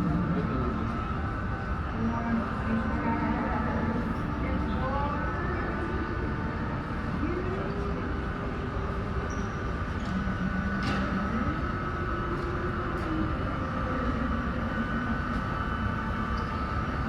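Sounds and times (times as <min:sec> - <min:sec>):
high engine whine: 0:00.0 - 0:17.0.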